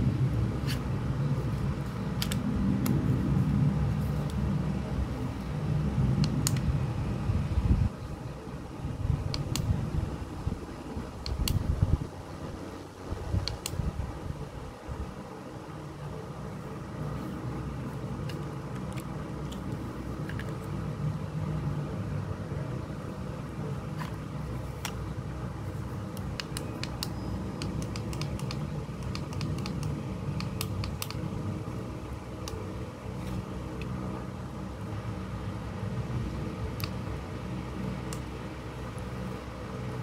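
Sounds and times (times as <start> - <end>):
handheld fan humming: 0.0 - 40.0.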